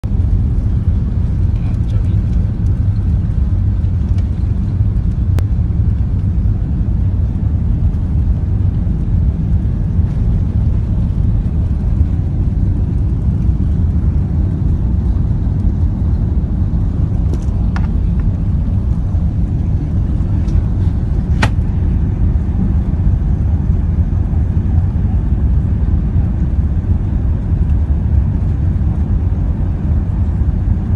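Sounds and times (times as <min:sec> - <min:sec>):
jet engines rumbling: 0:00.0 - 0:30.9.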